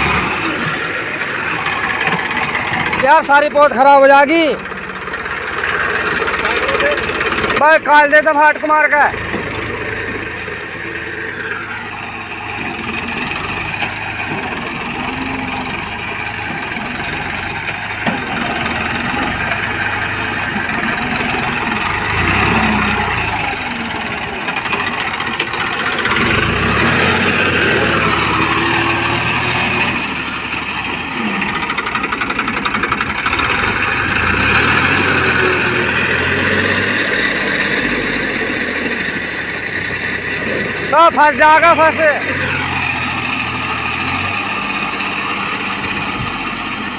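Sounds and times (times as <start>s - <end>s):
tractor diesel engine straining: 0.0s - 46.9s.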